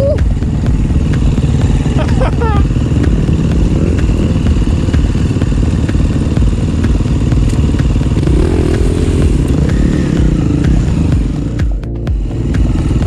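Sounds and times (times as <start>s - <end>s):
dirt bike engines idling: 0.0s - 13.0s
dirt bike riding off: 0.0s - 13.0s.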